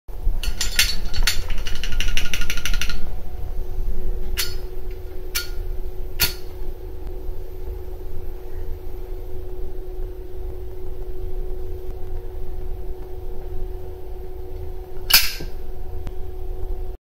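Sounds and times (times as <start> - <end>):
low rumble: 0.1 - 17.0.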